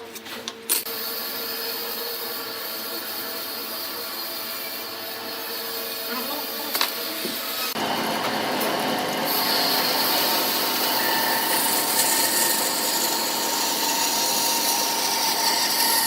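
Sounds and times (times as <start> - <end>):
power tool running with hiss: 0.9 - 16.0.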